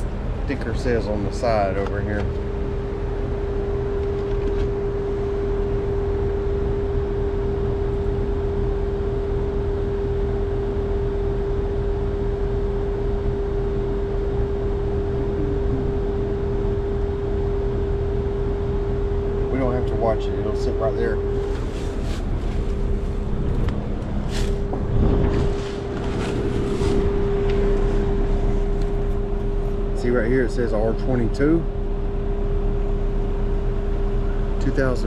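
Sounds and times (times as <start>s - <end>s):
air conditioner humming: 0.0s - 35.0s.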